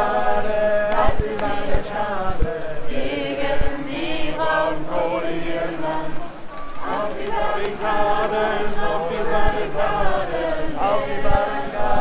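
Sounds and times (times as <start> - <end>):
crowd chanting in unison: 0.0 - 12.0.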